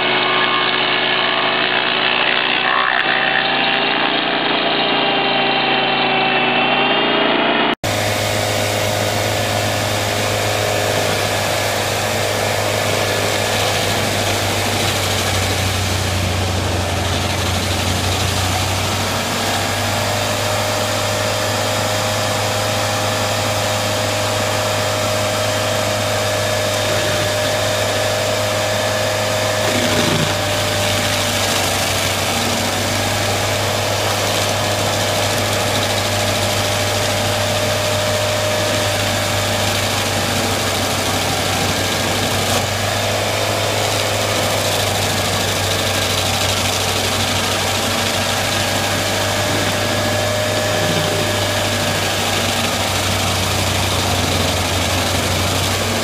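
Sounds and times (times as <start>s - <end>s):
cutter wheel grinding stump: 0.0s - 56.0s
stump grinder engine running: 0.0s - 56.0s.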